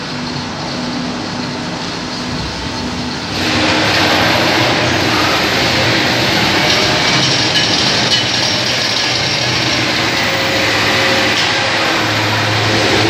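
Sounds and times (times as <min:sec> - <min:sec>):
low hum: 0:00.0 - 0:13.0
water spraying hiss: 0:02.3 - 0:13.0.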